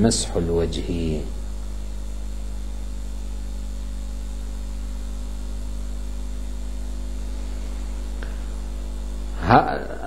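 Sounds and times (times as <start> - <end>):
electrical mains hum: 0.0 - 10.0
faint hiss: 0.0 - 10.0.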